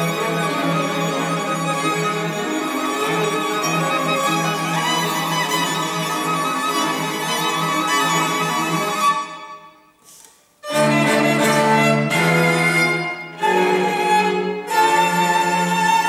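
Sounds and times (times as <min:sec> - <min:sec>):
string quartet playing: 0:00.0 - 0:16.0.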